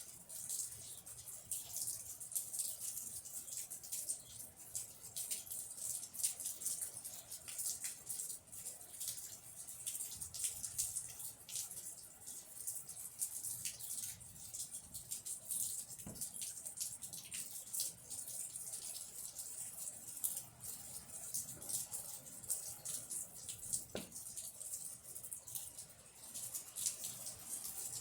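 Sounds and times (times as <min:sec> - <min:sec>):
rain falling: 0:00.1 - 0:28.0.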